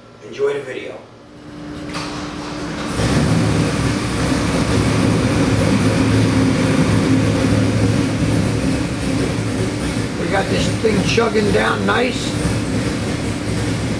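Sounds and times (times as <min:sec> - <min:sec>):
marine engine running on dyno: 0:01.3 - 0:13.9.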